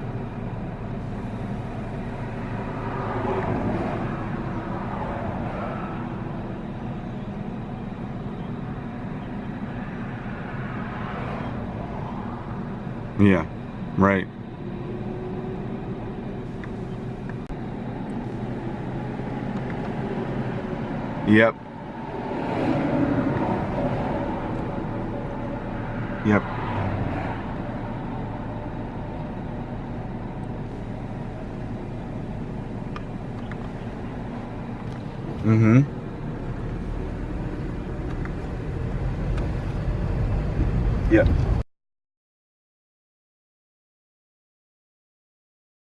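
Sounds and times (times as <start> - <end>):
car road and engine rumble: 0.0 - 41.6.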